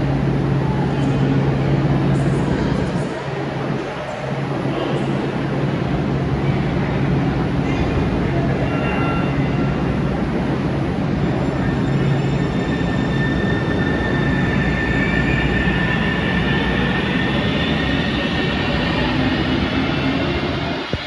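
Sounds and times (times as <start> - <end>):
light rail train rumble: 0.0 - 21.0.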